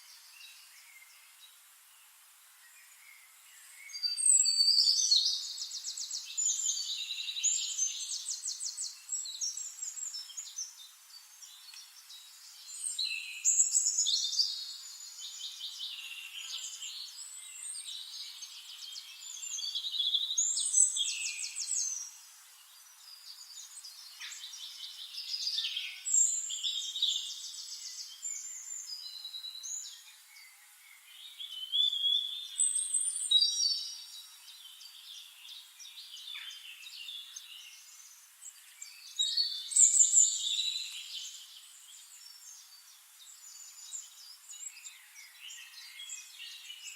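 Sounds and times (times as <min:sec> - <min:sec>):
soft bird chirps: 0:00.0 - 0:46.9.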